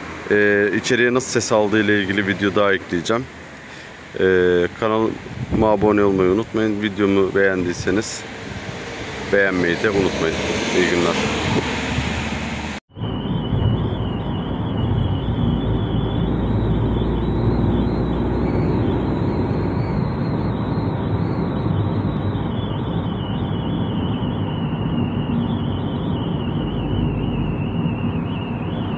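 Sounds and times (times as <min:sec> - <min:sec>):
road and wind rumble: 0:00.0 - 0:28.9
wind whistling off roof rails: 0:00.0 - 0:28.9.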